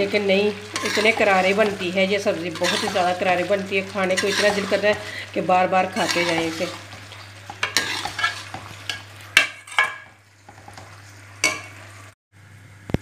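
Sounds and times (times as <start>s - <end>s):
light sizzle: 0.0s - 13.0s
metal spatula scraping a pan: 0.6s - 5.1s, 5.8s - 11.9s.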